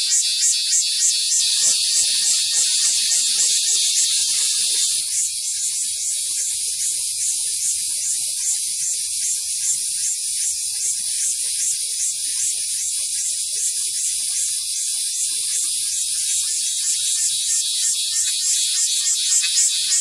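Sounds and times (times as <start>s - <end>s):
cicada buzzing: 0.0s - 20.0s.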